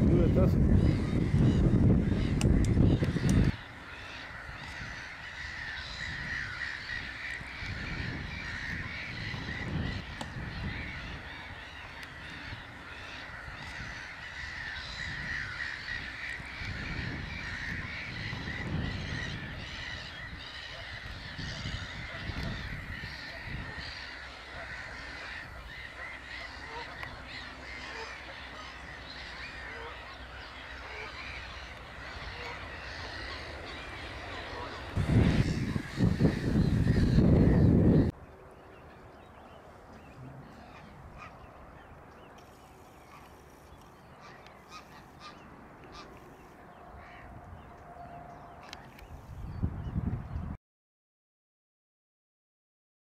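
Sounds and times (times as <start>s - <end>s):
birds calling harshly: 0.0s - 50.4s
wind rumble on microphone: 0.0s - 50.6s.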